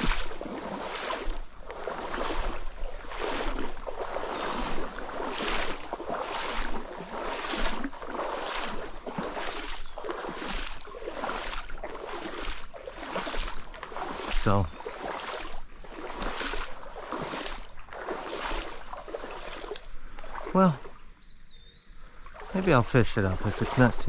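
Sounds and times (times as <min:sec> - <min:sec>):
water sloshing against wading legs: 0:00.0 - 0:21.2, 0:22.0 - 0:24.0.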